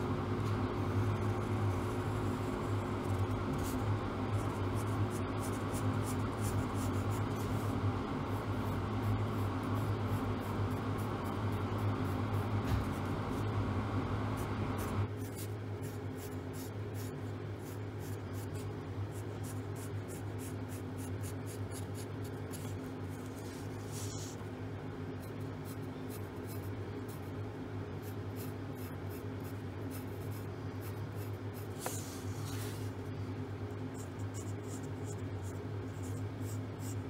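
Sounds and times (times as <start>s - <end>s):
steady low hum: 0.0s - 37.0s
pencil scratching on paper: 1.1s - 13.5s, 14.4s - 24.4s, 28.0s - 32.9s, 33.9s - 37.0s.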